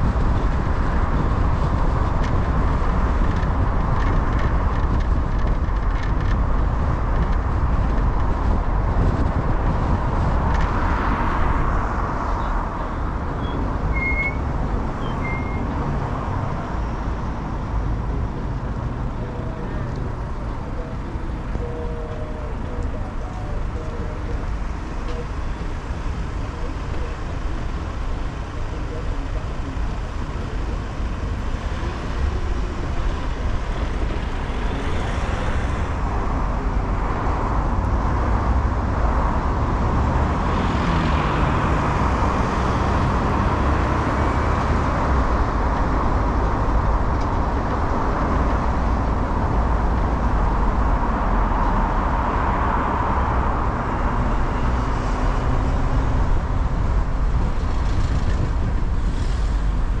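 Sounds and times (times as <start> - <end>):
car engine and road noise: 0.0 - 60.0.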